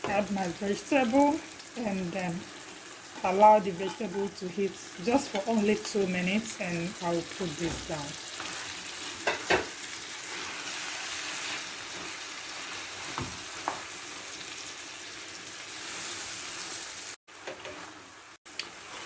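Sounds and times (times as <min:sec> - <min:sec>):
sauce sizzling in a frying pan: 0:00.0 - 0:19.0.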